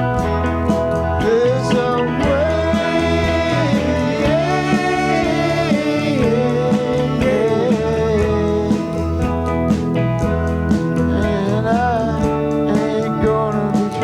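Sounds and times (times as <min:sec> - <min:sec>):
band playing country song: 0:00.0 - 0:14.0
sliding lead melody: 0:00.0 - 0:14.0.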